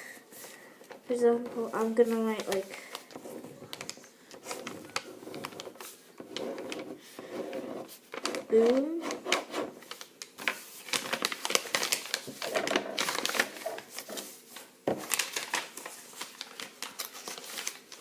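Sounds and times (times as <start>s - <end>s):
paper rustling: 0.3s - 7.2s, 7.8s - 18.0s.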